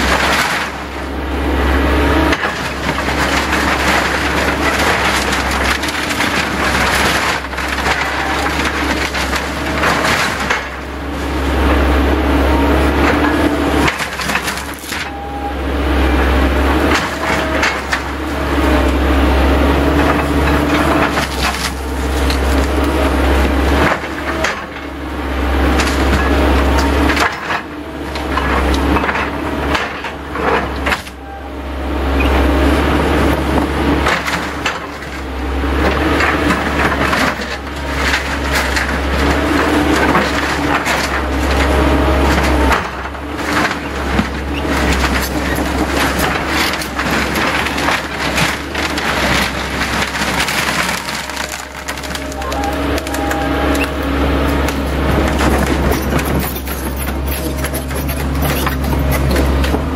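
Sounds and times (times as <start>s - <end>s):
bucket crunching scrap metal: 0.0s - 1.3s, 1.9s - 31.6s, 32.2s - 59.9s
excavator engine droning: 0.0s - 59.9s.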